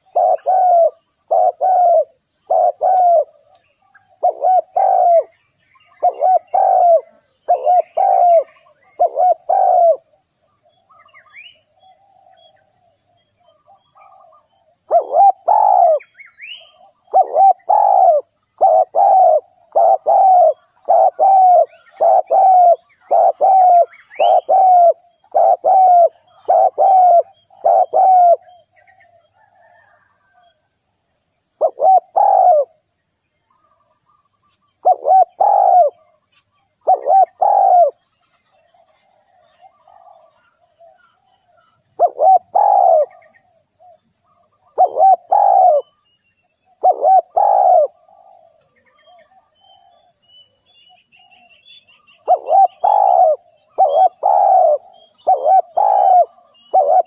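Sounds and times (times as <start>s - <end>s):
dove cooing: 0.0s - 10.1s, 13.5s - 30.5s, 31.6s - 32.8s, 34.8s - 36.2s, 36.8s - 38.0s, 38.6s - 46.0s, 46.6s - 50.2s, 52.2s - 57.0s
small bird chirping: 0.0s - 30.6s, 33.4s - 57.0s.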